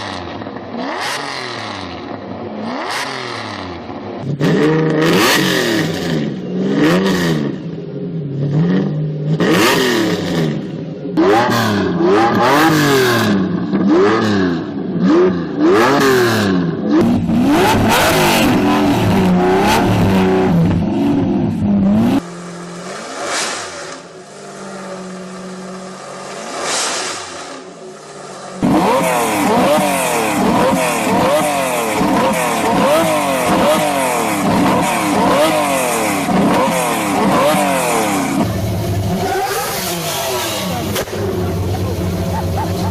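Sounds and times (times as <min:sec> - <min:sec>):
sports car engine revving: 0:00.0 - 0:42.9.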